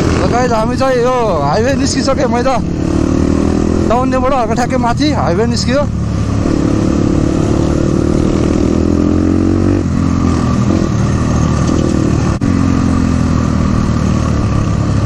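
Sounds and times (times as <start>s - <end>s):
dirt bike engine running: 0.0s - 15.0s
wind noise: 0.0s - 15.0s.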